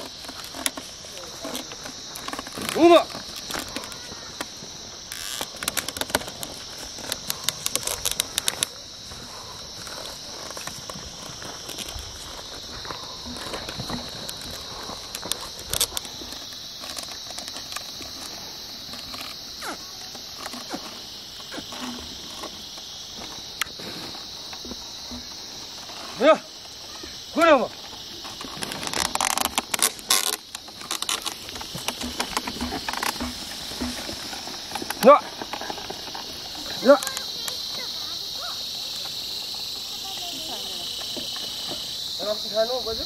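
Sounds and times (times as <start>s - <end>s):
sharp clicks and rustles: 0.0s - 26.8s, 27.8s - 37.9s
high-pitched insect chorus: 0.0s - 43.0s.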